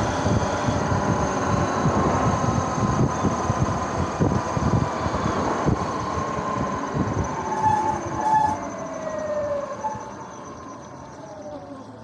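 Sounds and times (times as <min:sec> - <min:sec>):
wind rumble on microphone: 0:00.0 - 0:09.8.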